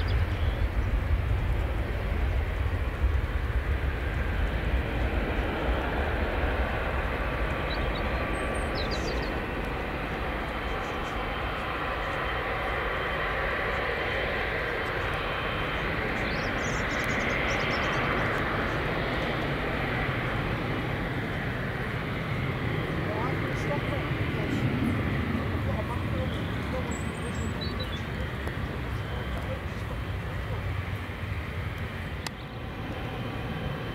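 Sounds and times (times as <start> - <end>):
jet engines rumbling: 0.0 - 33.9.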